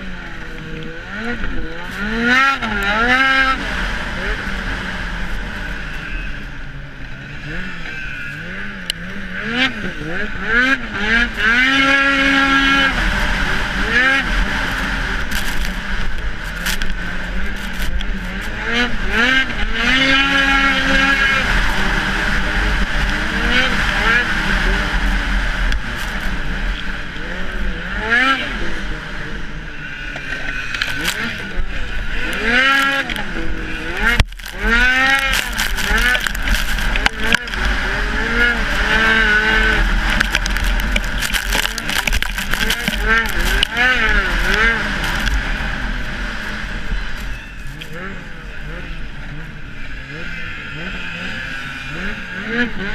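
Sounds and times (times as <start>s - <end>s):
snowmobile engine running: 0.0s - 52.9s.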